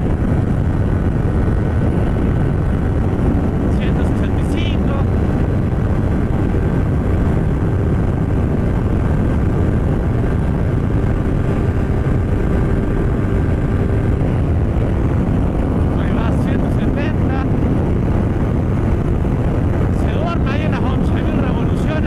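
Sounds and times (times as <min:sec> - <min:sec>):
motorcycle engine cruising: 0:00.0 - 0:22.0
wind rush on microphone: 0:00.0 - 0:22.0.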